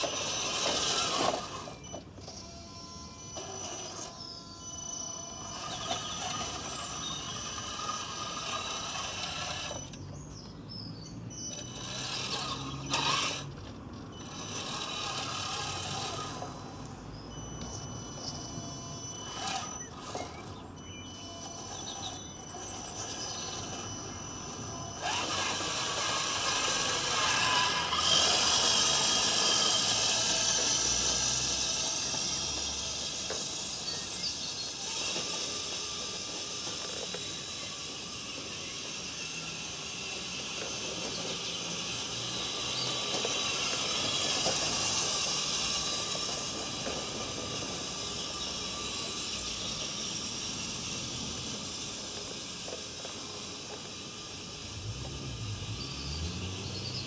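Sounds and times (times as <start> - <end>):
toy car motor whirring: 0.0 - 57.0.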